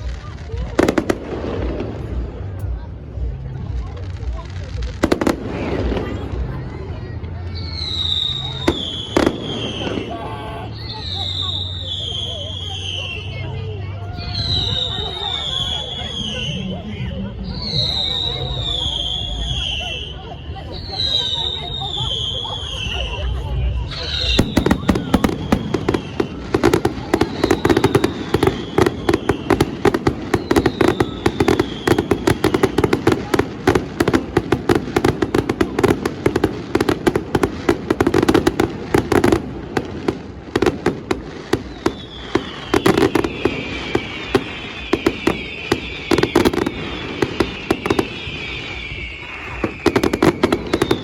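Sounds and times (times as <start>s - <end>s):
fireworks bangs and crackles: 0.0s - 51.0s
fireworks whistles falling in pitch: 7.5s - 13.6s, 14.2s - 16.8s, 17.4s - 51.0s.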